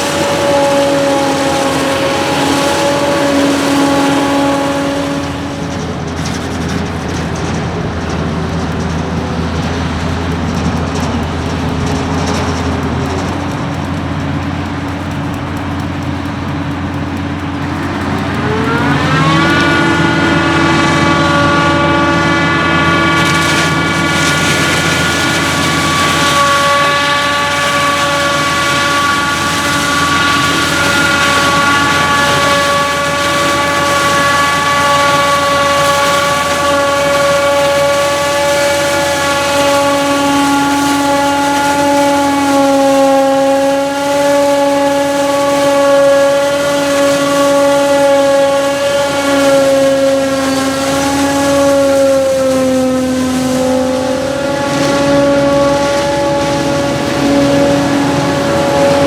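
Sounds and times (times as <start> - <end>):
heavy diesel machinery revving: 0.0 - 59.0.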